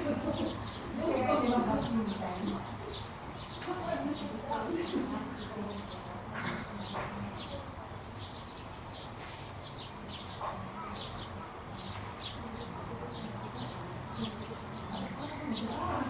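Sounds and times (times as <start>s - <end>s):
small bird chirping: 0.3s - 16.0s.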